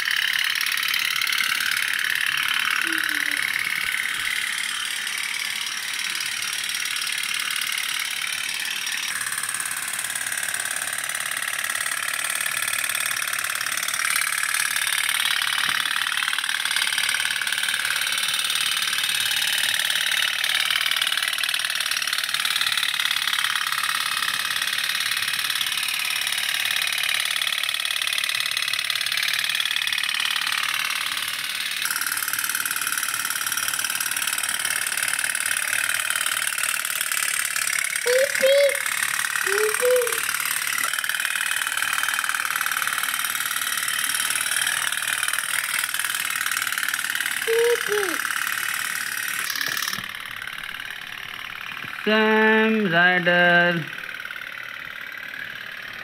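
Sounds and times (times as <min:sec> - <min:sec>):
toy steam boats puttering: 0:00.0 - 0:56.0.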